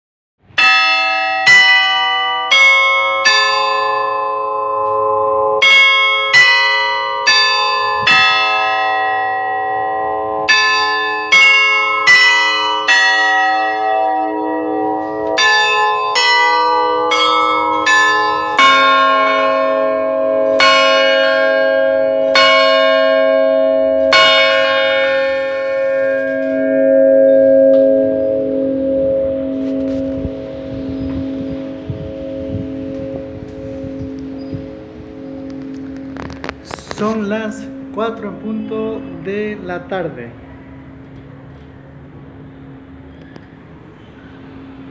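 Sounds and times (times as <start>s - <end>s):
tower bells chiming tune: 0.6s - 41.1s
deep bell tolling: 0.6s - 43.1s.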